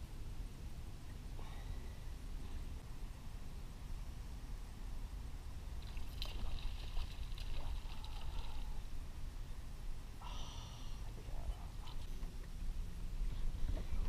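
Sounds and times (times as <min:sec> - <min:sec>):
boat engine rumble: 0:00.0 - 0:14.0.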